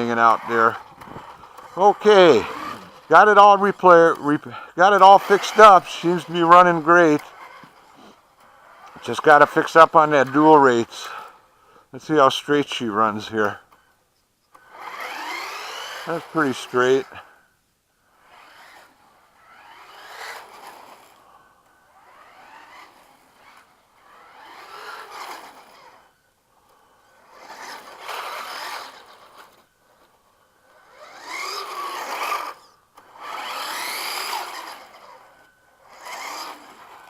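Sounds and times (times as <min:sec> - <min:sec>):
toy car electric motor whining: 0:00.0 - 0:11.4, 0:14.5 - 0:17.3, 0:18.1 - 0:37.0.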